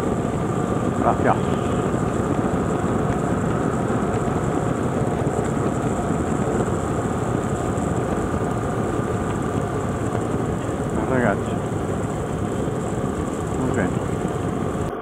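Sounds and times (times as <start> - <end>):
motorcycle engine droning: 0.0 - 15.0
wind and road noise: 0.0 - 15.0.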